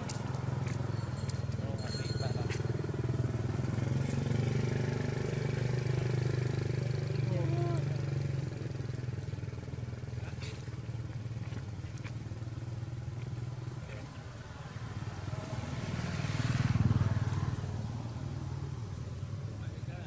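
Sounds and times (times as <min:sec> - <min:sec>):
motorbike engine passing: 0:00.0 - 0:20.0.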